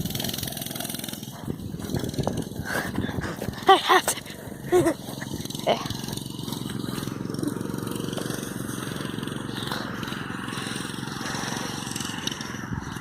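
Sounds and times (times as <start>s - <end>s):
small bike engine running: 0.0s - 13.0s.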